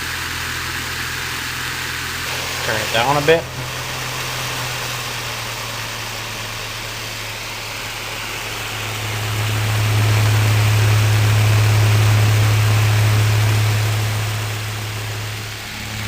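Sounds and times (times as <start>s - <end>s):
fan motor humming: 0.0s - 16.0s
air rushing from fan blades: 2.2s - 16.0s.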